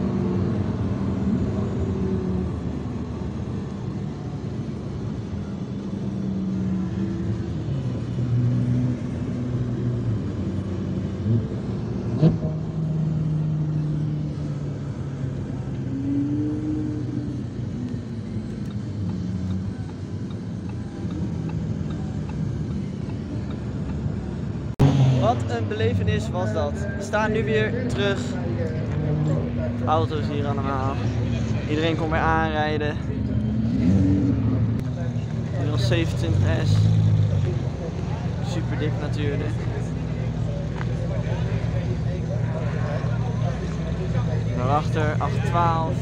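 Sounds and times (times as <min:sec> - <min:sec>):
car engine from inside cabin: 0:00.0 - 0:46.0.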